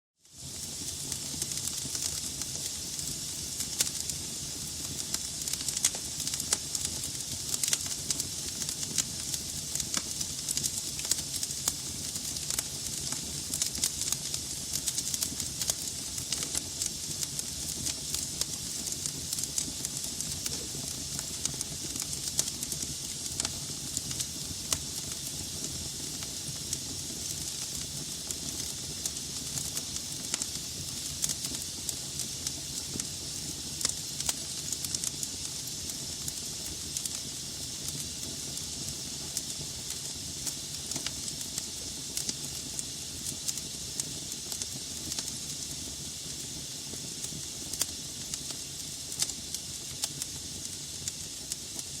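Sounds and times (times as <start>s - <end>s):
fire crackles and pops: 0.2s - 52.0s
flames hissing and rumbling: 0.2s - 52.0s.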